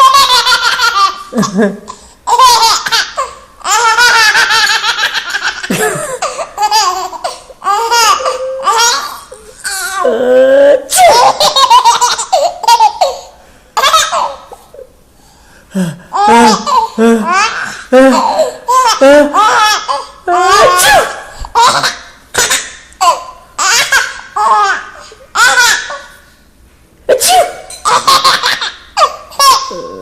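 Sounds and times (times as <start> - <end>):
baby laughing: 0.0 - 14.9, 16.1 - 26.2, 27.3 - 30.0.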